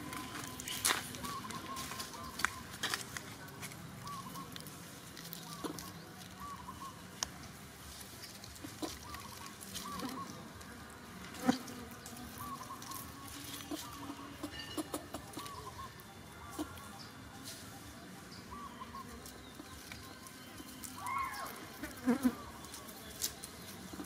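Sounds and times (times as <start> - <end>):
dry leaves crackling and rustling: 0.0 - 24.0.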